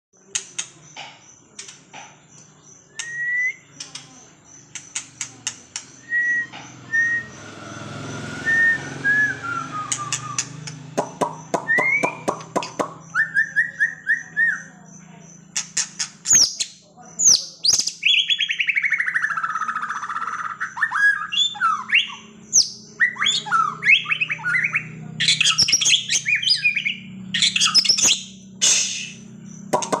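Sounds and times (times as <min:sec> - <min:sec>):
bird singing varied song: 0:00.2 - 0:30.0.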